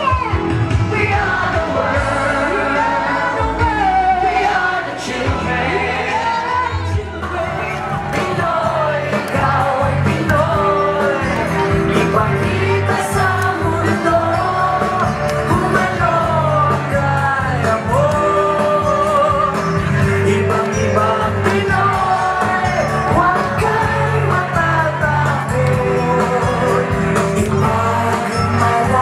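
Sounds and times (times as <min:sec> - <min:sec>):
upbeat pop-rock song: 0:00.0 - 0:29.0.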